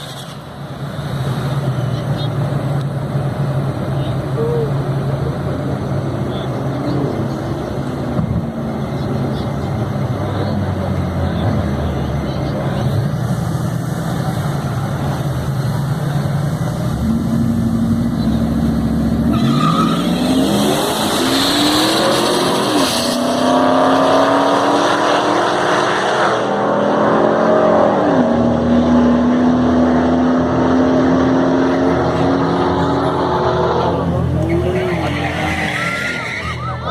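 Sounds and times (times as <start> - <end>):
pickup engines at full throttle: 0.0 - 36.9.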